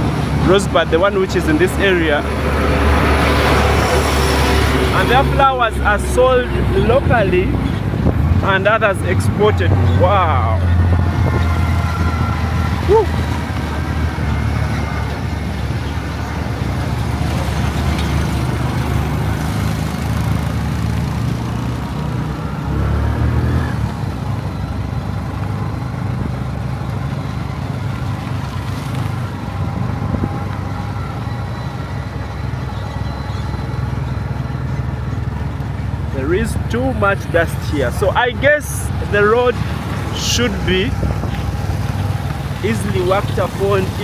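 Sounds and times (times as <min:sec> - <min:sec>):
road and wind noise: 0:00.0 - 0:44.0
vehicle engine running: 0:00.0 - 0:44.0.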